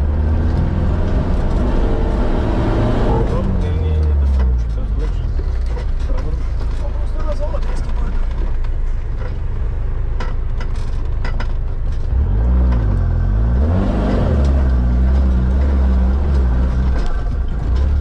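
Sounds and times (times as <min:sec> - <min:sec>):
engine pulling under load: 0:00.0 - 0:18.0.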